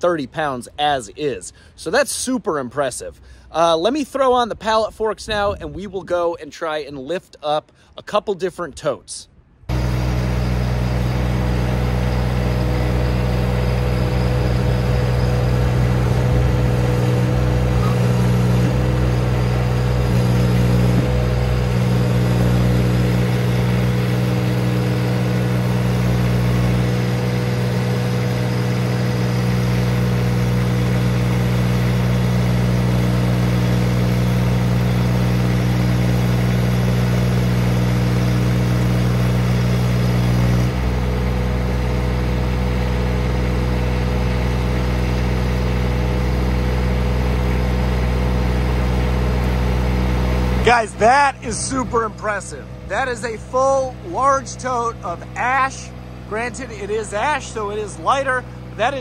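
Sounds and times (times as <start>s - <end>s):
skid steer engine running: 9.7s - 59.0s.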